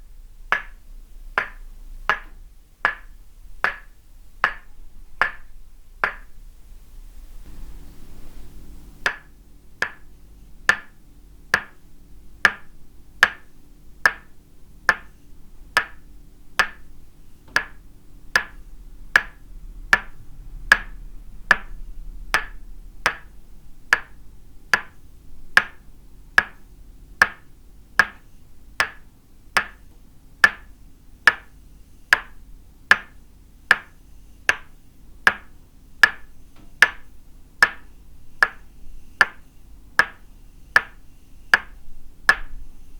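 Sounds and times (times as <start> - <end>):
wooden mallet tapping wooden peg: 0.4 - 6.4, 9.0 - 11.8, 12.4 - 14.3, 14.9 - 16.9, 17.5 - 25.0, 25.6 - 42.6.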